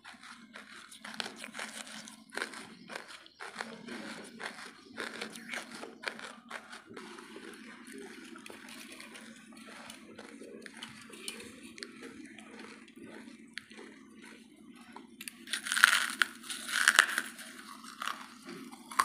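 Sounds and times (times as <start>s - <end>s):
charcoal crunching and crackling: 0.0s - 19.0s.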